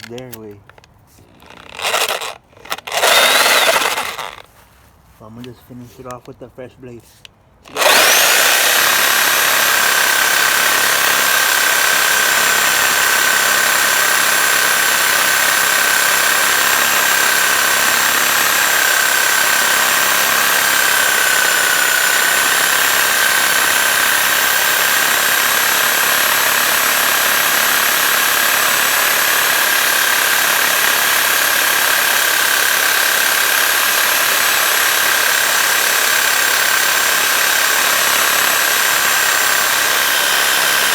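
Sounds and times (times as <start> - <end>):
power saw whining: 0.0 - 4.5, 7.6 - 40.9.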